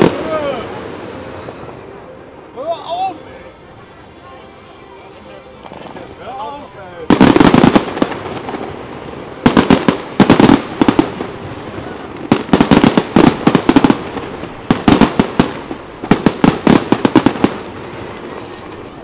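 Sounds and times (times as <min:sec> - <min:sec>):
fireworks bangs and crackles: 0:00.0 - 0:02.5, 0:05.6 - 0:19.0.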